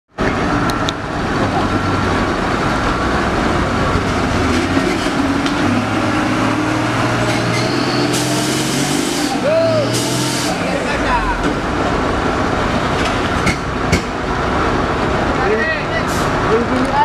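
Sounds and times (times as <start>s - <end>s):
diesel truck engine labouring: 0.1s - 17.0s.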